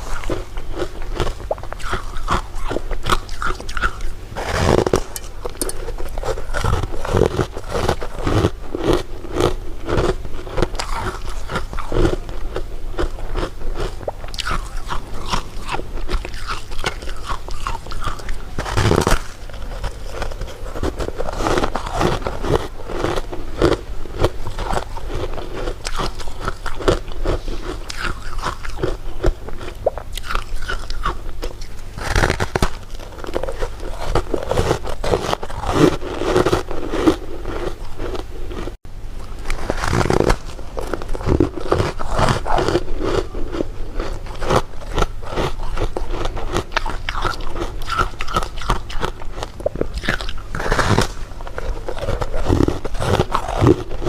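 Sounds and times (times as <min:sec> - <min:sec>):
candy crunching and chewing: 0:00.0 - 0:54.0.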